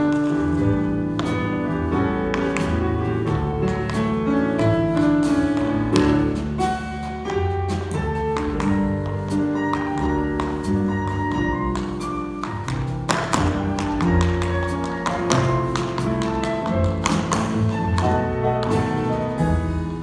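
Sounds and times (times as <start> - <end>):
tap shoes clicking on stage: 0.0 - 19.8
jazz trio playing: 0.0 - 20.0.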